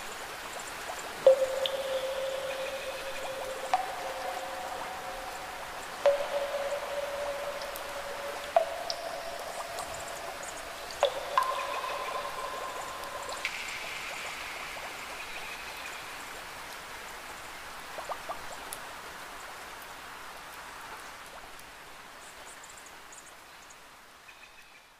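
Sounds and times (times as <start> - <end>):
rain drop ticks: 0.0 - 23.8
steady rain falling: 0.0 - 24.9.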